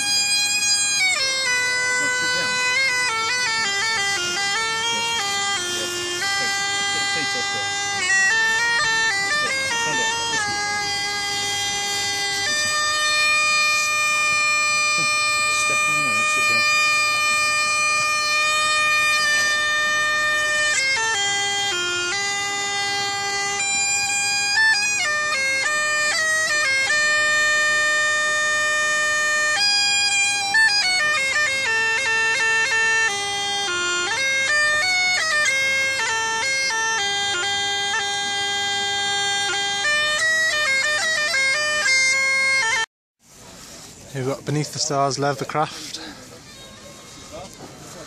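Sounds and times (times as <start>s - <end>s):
bagpipe drone: 0.0s - 42.9s, 43.6s - 48.0s
bagpipe melody: 0.0s - 48.0s.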